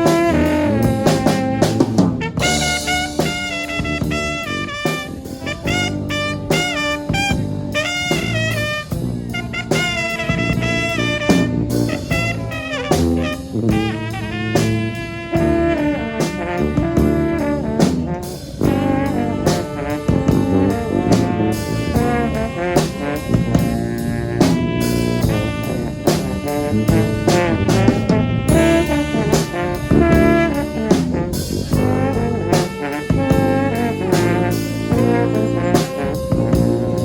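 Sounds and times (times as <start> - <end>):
brass band playing in harmony: 0.0 - 37.0.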